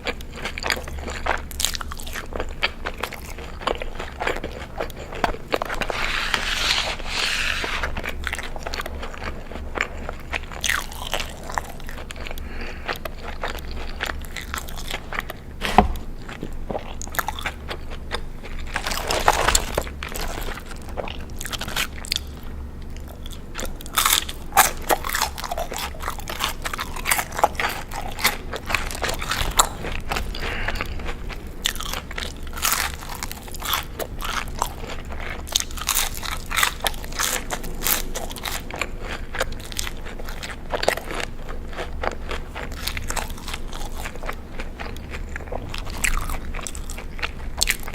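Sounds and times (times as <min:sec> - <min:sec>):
crunchy biting and chewing: 0:00.0 - 0:47.9.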